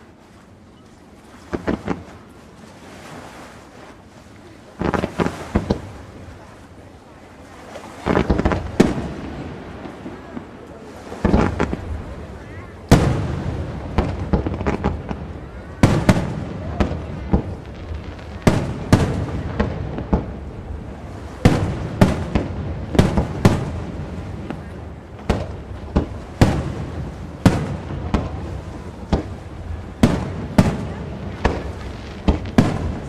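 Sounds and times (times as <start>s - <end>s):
fireworks bursting with bangs: 1.5s - 2.1s, 4.8s - 6.2s, 8.0s - 33.0s.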